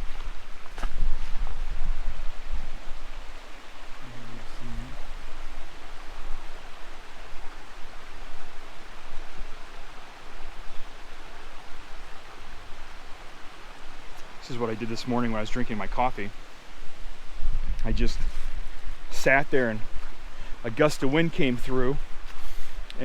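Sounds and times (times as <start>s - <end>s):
small waterfalls rushing: 0.0s - 23.0s.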